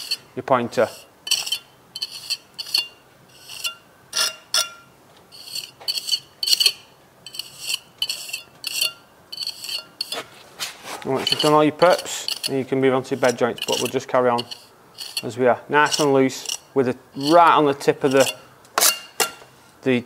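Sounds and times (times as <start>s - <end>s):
trowel scraping mortar: 0.0s - 4.7s, 5.3s - 19.4s.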